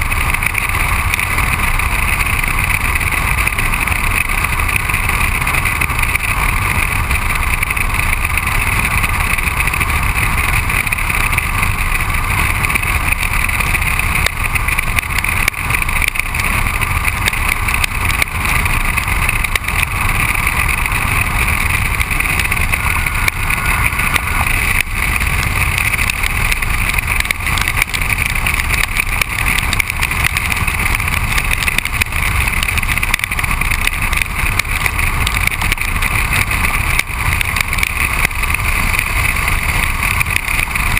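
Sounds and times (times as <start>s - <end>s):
tyre and road noise: 0.0s - 40.9s
wind rushing over camera: 0.0s - 40.9s.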